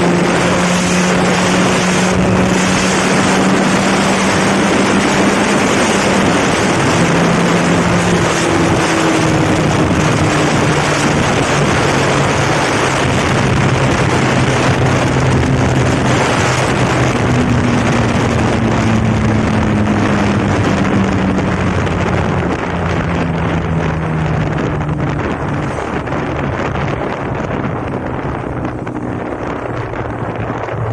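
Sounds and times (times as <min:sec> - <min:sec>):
motorcycle engine revving: 0:00.0 - 0:30.9
wind noise on microphone: 0:00.0 - 0:30.9.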